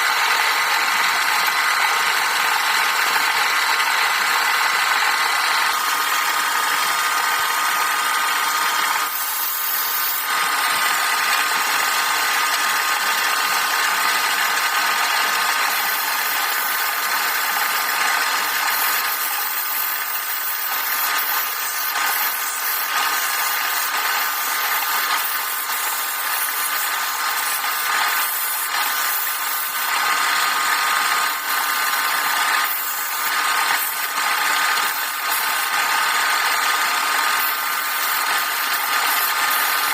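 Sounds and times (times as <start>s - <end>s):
tool cutting spinning wood: 0.0s - 39.9s
wood lathe motor whining: 0.0s - 39.9s.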